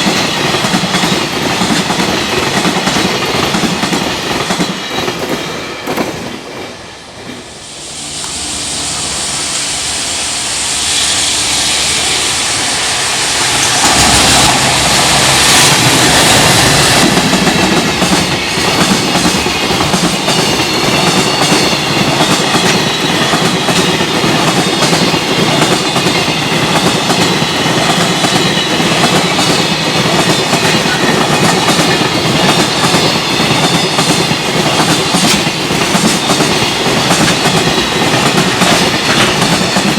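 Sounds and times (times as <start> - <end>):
freight train passing: 0.0 - 39.9
loud hiss of train: 0.0 - 39.9.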